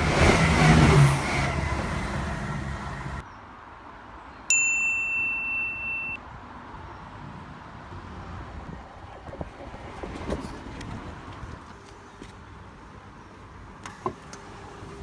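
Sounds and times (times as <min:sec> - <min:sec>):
vehicle noise: 0:00.0 - 0:15.0.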